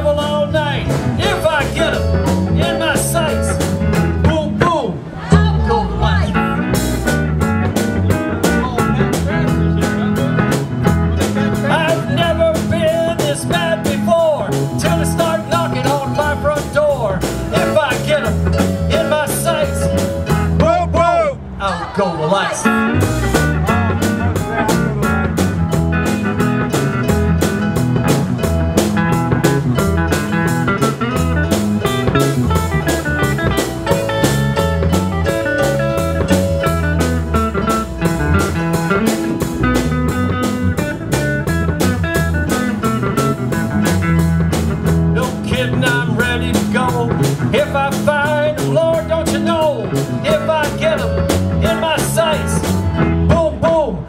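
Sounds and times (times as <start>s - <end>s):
drum kit beat: 0.0s - 21.1s, 22.7s - 53.6s
bass guitar: 0.0s - 54.0s
electric guitar: 5.9s - 20.6s, 22.6s - 53.4s.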